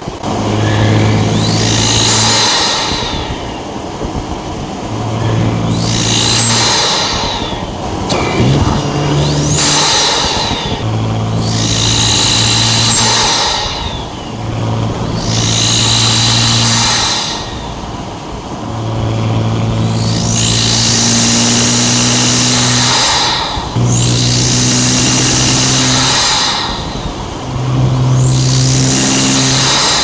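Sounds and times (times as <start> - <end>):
car engine droning: 0.0 - 30.0
turbo whistle and hiss: 0.4 - 4.3, 4.9 - 18.1, 19.8 - 30.0.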